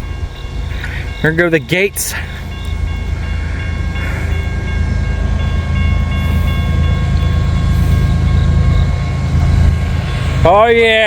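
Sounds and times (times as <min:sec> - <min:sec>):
diesel locomotive rumble: 0:00.0 - 0:11.0
high ringing tones: 0:00.0 - 0:11.0.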